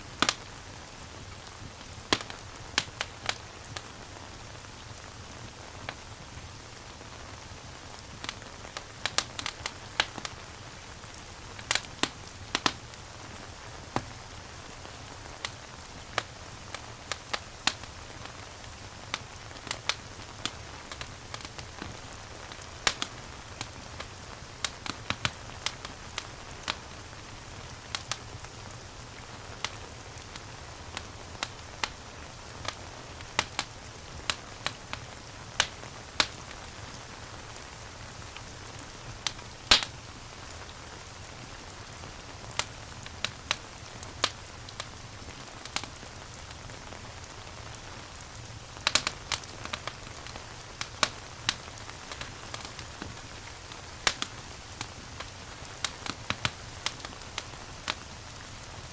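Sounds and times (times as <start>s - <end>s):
rain hiss: 0.0s - 58.9s
fireplace crackling and popping: 0.1s - 58.9s.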